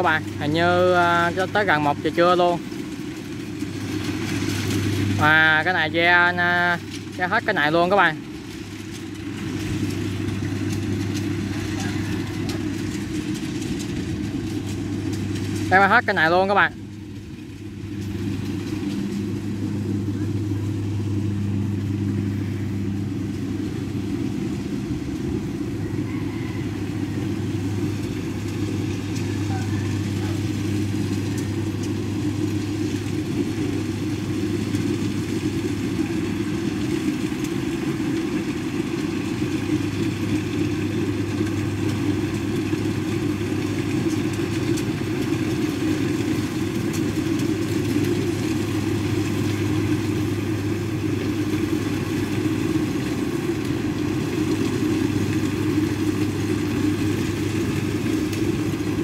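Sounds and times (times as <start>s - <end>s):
combine harvester diesel engine: 0.0s - 59.0s.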